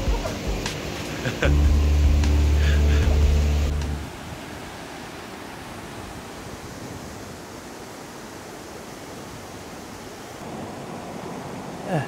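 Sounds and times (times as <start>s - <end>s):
creek water rushing over boulders: 0.0s - 12.0s.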